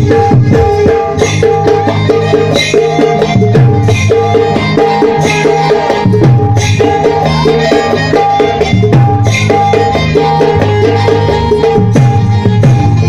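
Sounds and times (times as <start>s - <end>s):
hand drums: 0.0s - 13.0s
repeating folk melody: 0.0s - 13.0s.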